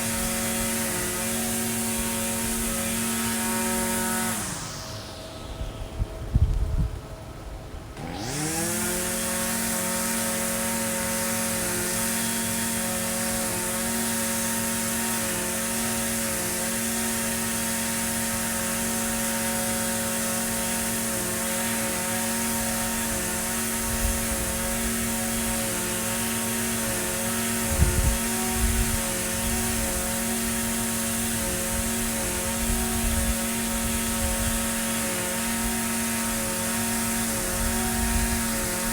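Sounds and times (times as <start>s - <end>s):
string trimmer engine: 0.0s - 7.2s, 7.8s - 38.9s.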